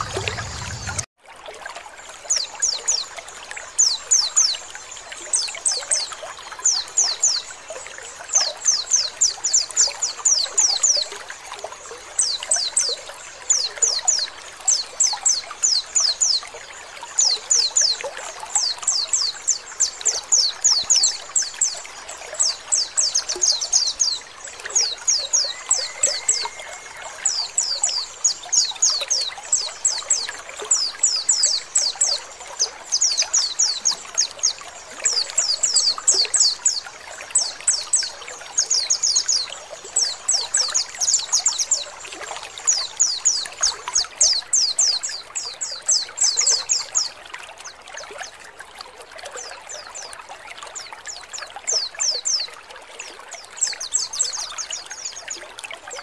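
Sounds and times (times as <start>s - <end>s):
trickle of flowing water: 0.0s - 56.0s.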